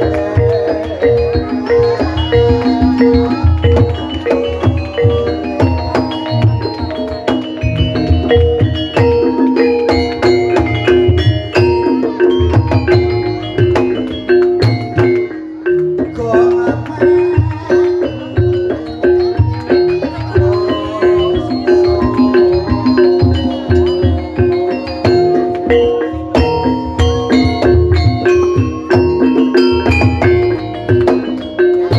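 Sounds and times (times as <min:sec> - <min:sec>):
drum beats: 0:00.0 - 0:31.9
gamelan keyed instruments: 0:00.0 - 0:31.9.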